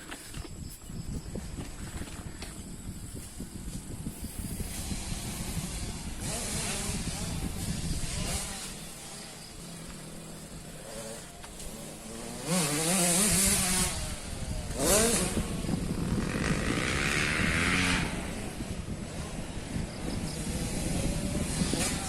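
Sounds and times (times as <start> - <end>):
dirt bike engines revving: 2.5 - 22.0.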